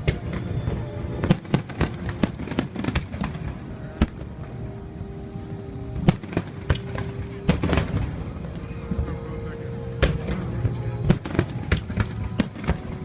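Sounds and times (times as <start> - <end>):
fireworks bangs: 0.0 - 4.7, 6.0 - 13.0
continuous low rumble: 0.0 - 13.0.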